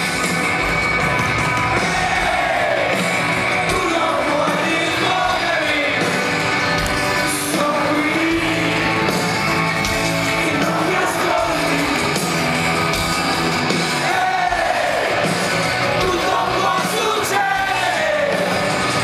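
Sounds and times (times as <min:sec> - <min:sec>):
live rock band with singing: 0:00.0 - 0:19.0.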